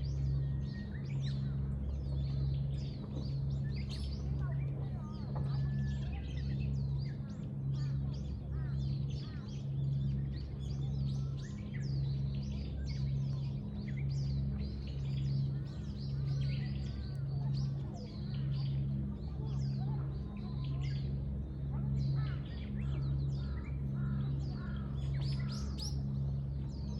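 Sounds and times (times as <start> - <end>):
low pulsing hum: 0.0 - 26.9
small birds chirping: 0.0 - 26.9.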